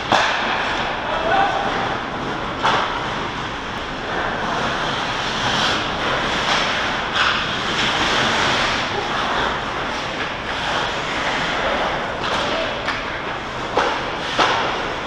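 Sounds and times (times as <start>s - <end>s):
hockey skates scraping ice: 1.6s - 15.0s.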